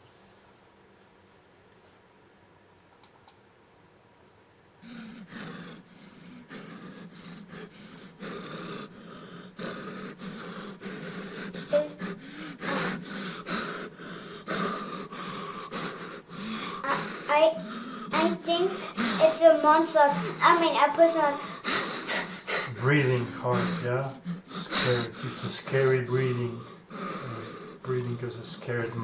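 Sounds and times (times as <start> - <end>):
man panting heavily: 4.8 - 28.8.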